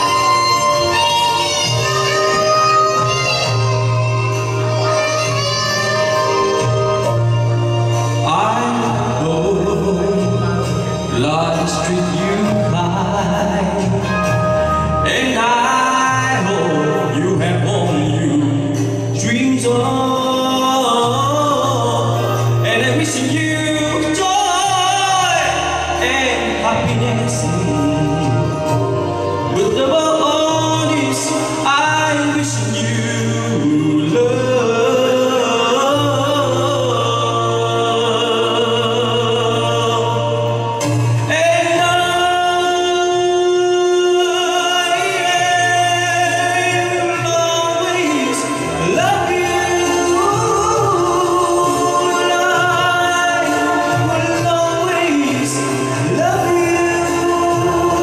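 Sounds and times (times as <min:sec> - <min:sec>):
instrumental accompaniment: 0:00.0 - 0:58.0
man singing into a microphone: 0:00.0 - 0:58.0.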